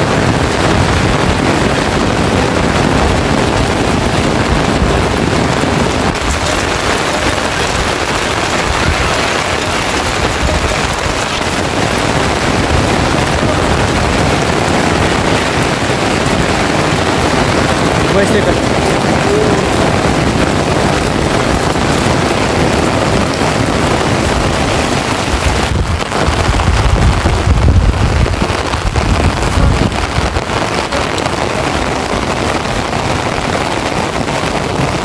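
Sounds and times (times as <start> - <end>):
heavy rain: 0.0 - 35.0
wind buffeting microphone: 0.0 - 35.0.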